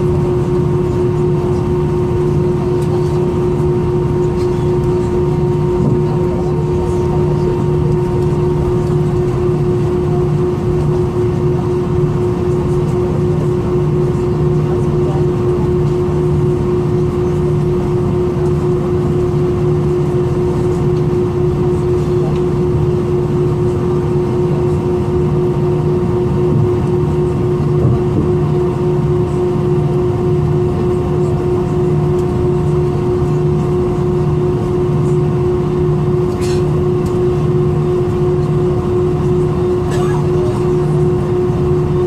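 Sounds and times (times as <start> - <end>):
airplane cabin rush: 0.0 - 42.0
low pulsing drone: 0.0 - 42.0
steady hum: 0.0 - 42.0.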